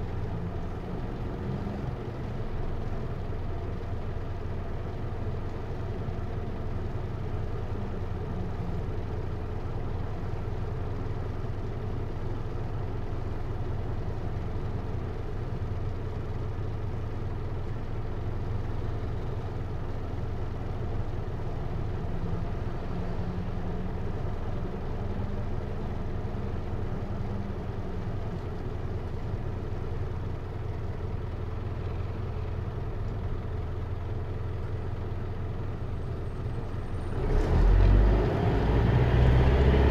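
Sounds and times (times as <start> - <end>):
diesel engine running at low revs: 0.0 - 39.9.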